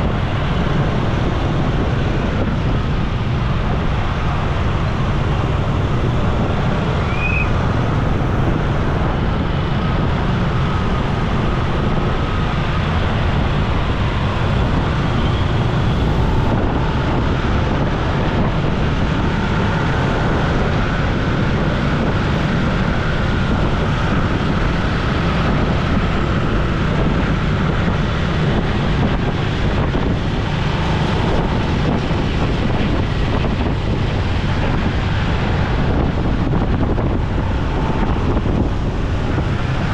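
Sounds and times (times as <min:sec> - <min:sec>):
road and traffic noise: 0:00.0 - 0:39.9
wind rushing over microphone: 0:00.0 - 0:39.9.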